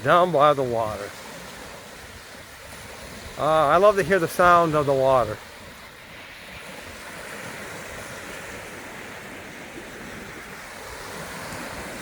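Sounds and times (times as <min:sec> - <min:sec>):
lake waves washing onto rocky shore: 0:00.0 - 0:12.0.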